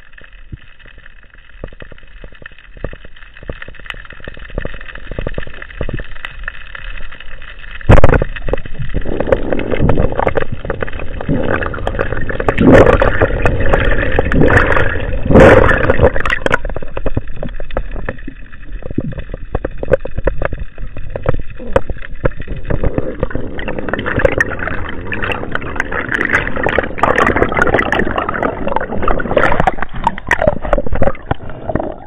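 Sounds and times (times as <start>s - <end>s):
water rushing and gurgling: 3.0s - 32.0s.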